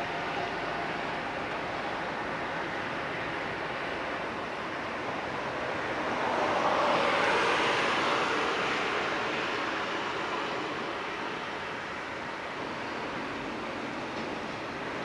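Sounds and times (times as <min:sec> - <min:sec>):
distant train: 0:00.0 - 0:15.0
wind: 0:00.0 - 0:15.0.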